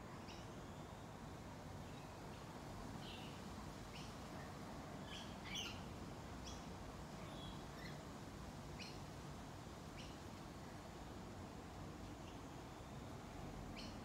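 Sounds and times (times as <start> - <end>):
faint steady background hiss: 0.0 - 14.0.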